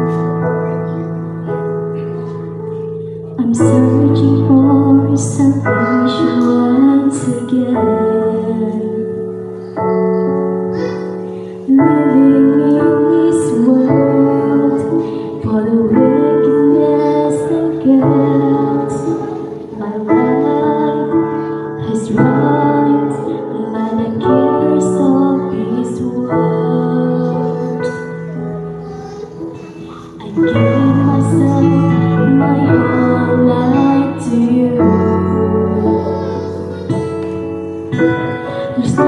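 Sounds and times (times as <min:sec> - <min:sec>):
keyboard chords: 0:00.0 - 0:39.0
woman singing into a microphone: 0:02.0 - 0:09.7, 0:11.4 - 0:39.0.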